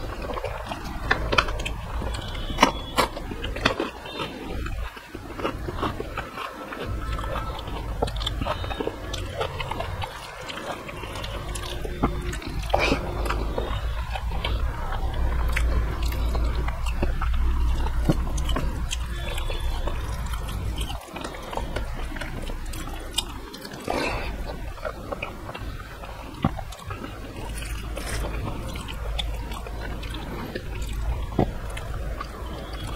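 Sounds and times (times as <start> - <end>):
person chewing: 0.0 - 32.9.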